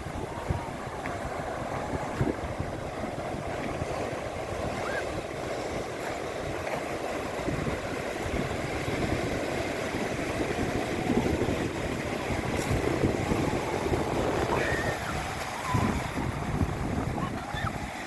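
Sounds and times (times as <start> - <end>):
storm waves breaking: 0.0 - 18.0
wind buffeting microphone: 0.0 - 18.0.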